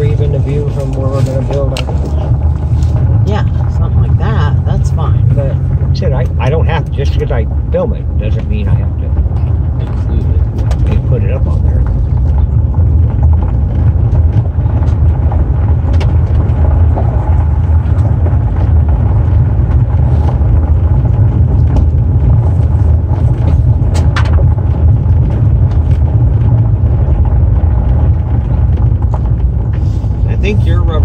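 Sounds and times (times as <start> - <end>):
car road noise on gravel: 0.0 - 31.0.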